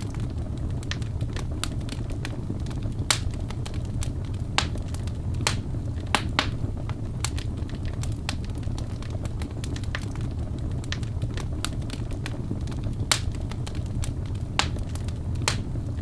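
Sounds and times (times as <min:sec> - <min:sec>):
fire crackles and pops: 0:00.0 - 0:16.0
low rumble of flames: 0:00.0 - 0:16.0.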